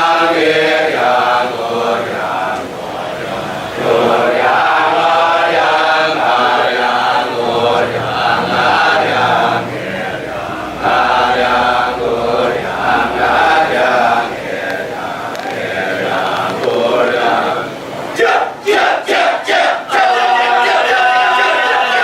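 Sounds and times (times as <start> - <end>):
male chorus chanting rhythmically: 0.0 - 22.0.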